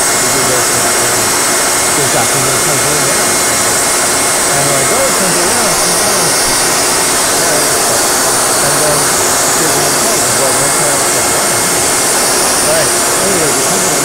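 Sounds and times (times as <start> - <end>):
man's voice: 0.0 - 3.6, 4.4 - 14.0
vacuum cleaner running: 0.0 - 14.0.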